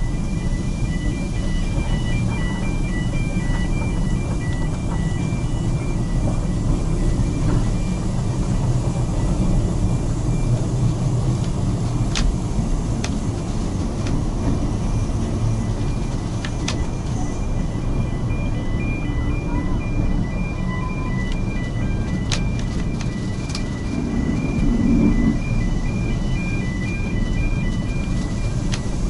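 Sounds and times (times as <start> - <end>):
train rumbling on track: 0.0 - 29.0.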